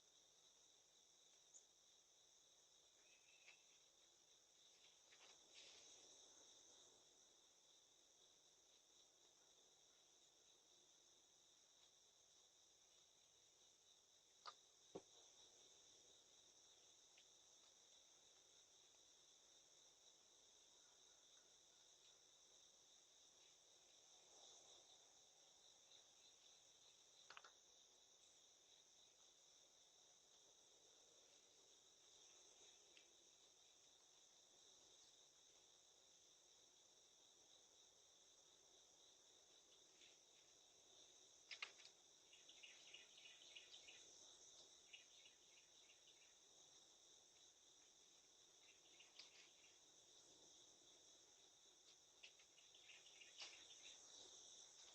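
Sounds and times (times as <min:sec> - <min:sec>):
insect chorus trilling: 0:00.0 - 0:54.9.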